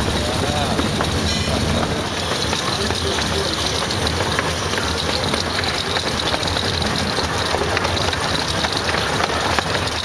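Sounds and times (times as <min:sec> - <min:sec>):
miniature steam train rumbling: 0:00.0 - 0:10.0.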